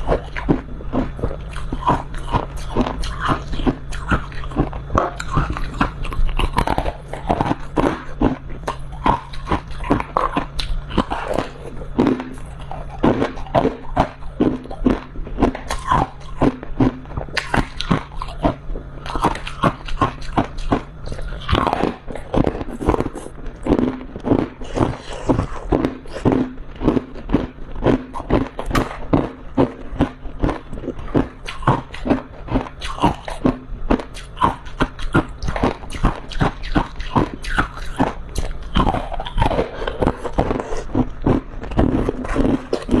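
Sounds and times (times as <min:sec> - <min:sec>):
mouth crunching frost: 0:00.0 - 0:43.0.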